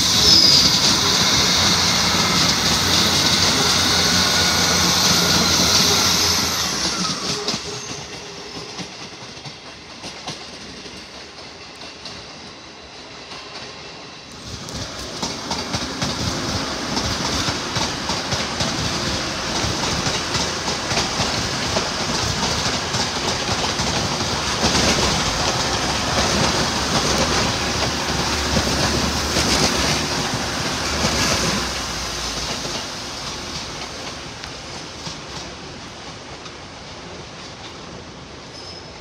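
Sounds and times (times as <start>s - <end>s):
diesel train engine passing: 0.0s - 38.7s
train wheels clattering: 0.0s - 39.0s.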